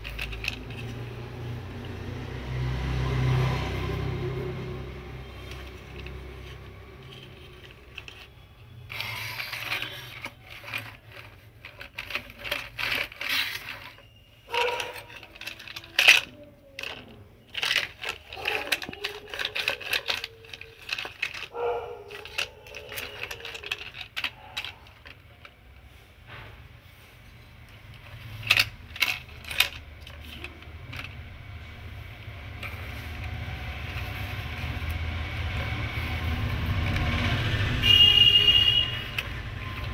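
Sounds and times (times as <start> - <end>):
plastic toys clattering on concrete: 0.0 - 39.9.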